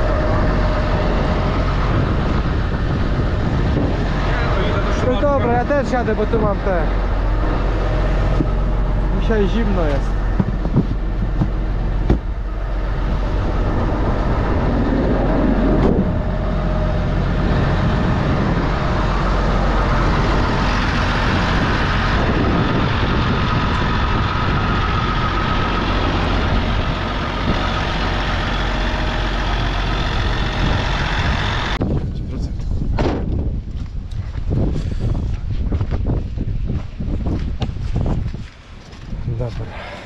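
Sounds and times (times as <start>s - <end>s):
diesel engine running: 0.0s - 38.1s.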